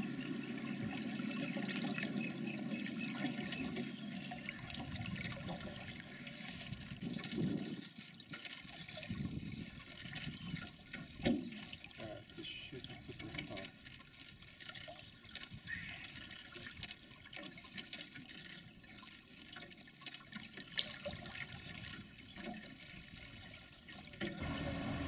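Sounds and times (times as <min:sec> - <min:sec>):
water sloshing and trickling: 0:00.0 - 0:25.0.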